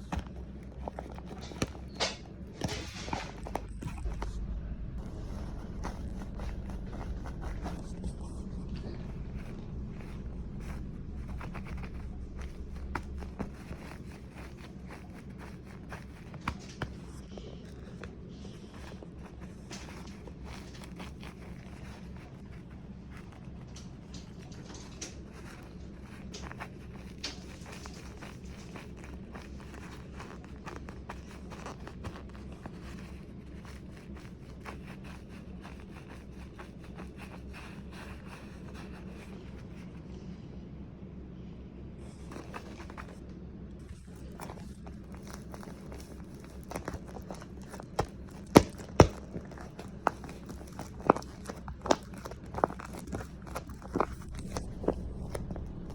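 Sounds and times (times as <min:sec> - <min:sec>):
handling clicks and rustles: 0:00.0 - 0:40.3, 0:42.0 - 0:55.9
low steady hum: 0:00.0 - 0:55.9.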